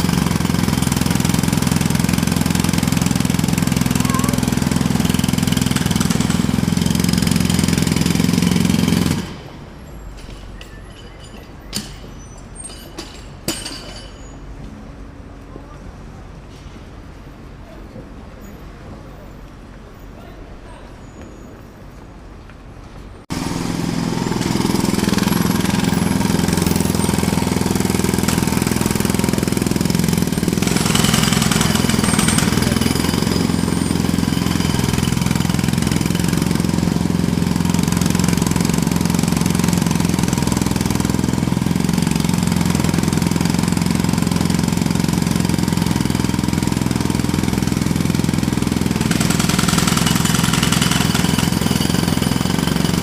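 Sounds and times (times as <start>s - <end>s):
jackhammer hammering: 0.0s - 9.6s, 10.2s - 14.2s, 23.3s - 53.0s.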